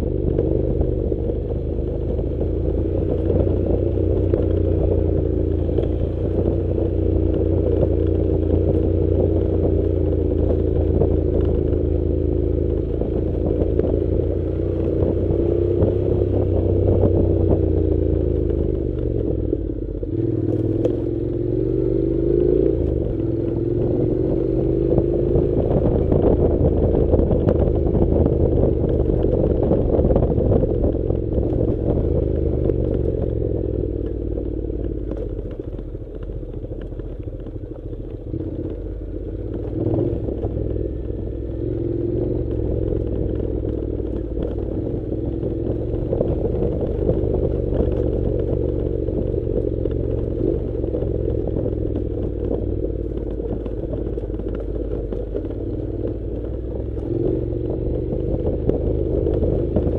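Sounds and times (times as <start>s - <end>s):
motorcycle clattering and rattling: 0.0s - 59.9s
motorcycle engine revving: 0.0s - 59.9s.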